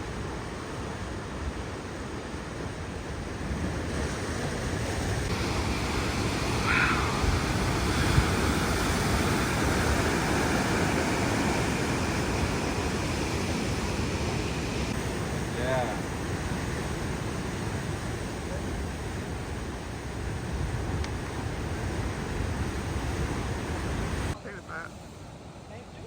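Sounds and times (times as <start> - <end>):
ocean surf rushing: 0.0 - 26.0.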